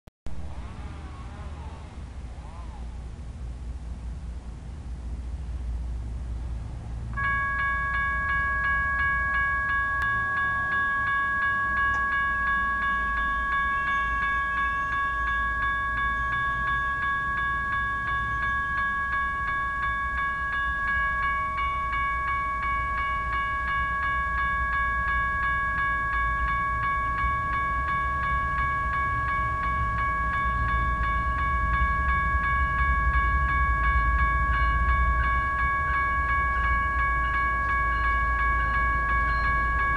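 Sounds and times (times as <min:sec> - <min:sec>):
railroad crossing bell ringing: 0:06.8 - 0:39.9.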